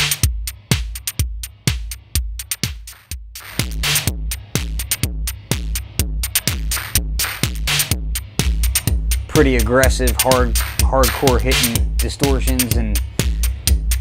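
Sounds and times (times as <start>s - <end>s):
distorted electronic kick drum: 0.0s - 14.0s
heavy bass line: 0.0s - 14.0s.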